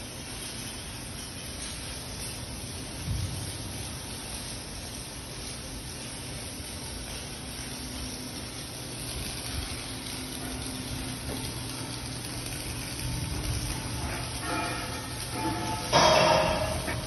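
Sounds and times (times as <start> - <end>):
arc welding hiss: 0.0 - 17.0.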